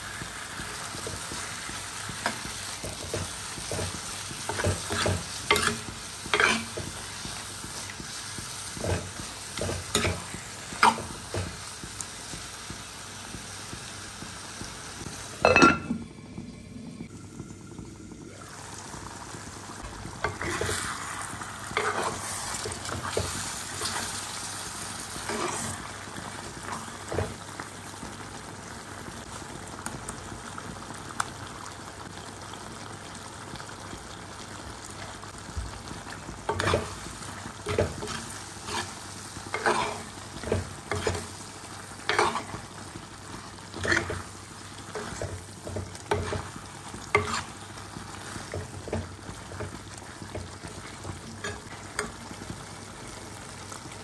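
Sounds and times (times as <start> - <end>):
curry sizzling in pot: 0.0 - 54.0.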